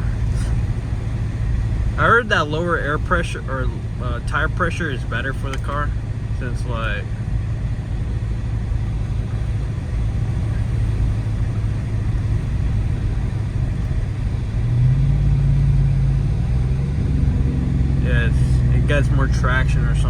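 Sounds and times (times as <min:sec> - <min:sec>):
car engine from inside cabin: 0:00.0 - 0:20.0.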